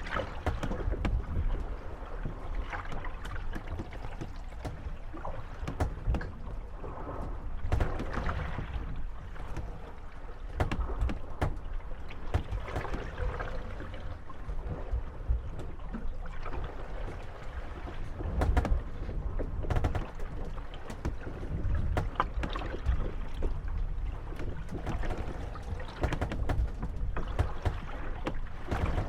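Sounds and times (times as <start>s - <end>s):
water lapping: 0.0s - 29.0s
wooden boats creaking and knocking: 0.0s - 29.0s.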